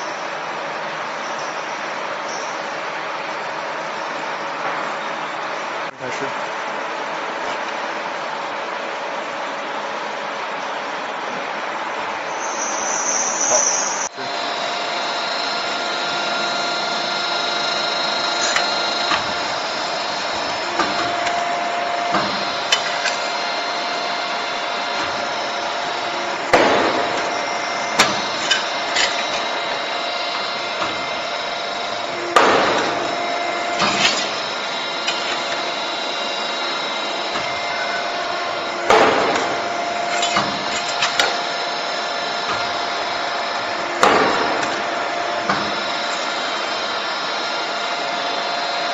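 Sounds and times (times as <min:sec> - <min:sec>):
machine humming: 0:00.0 - 0:48.9.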